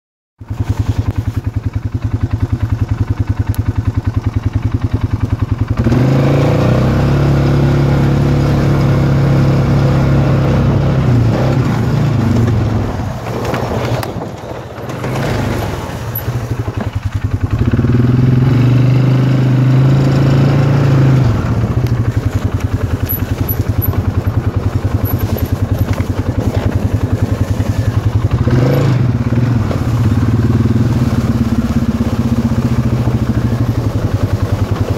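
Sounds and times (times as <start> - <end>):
atv engine revving: 0.5 - 34.9.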